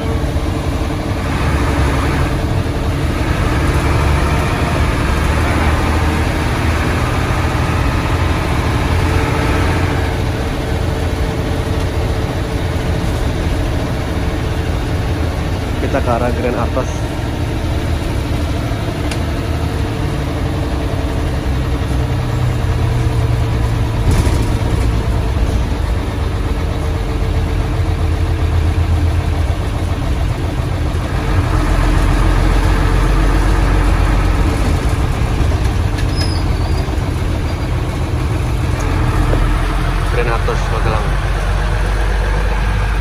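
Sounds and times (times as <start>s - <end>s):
diesel bus engine rumbling: 0.0s - 43.0s.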